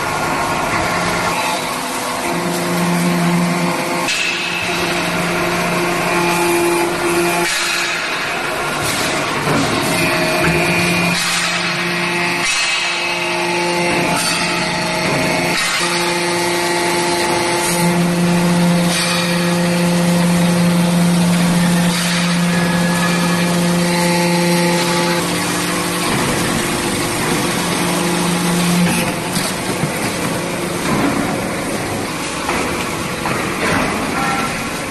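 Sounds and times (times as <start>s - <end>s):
hydraulic pump humming: 0.0s - 34.9s.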